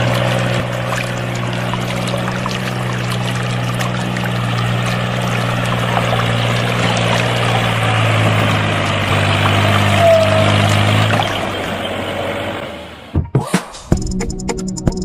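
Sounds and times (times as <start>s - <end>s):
rough grinding noise: 0.0s - 13.1s.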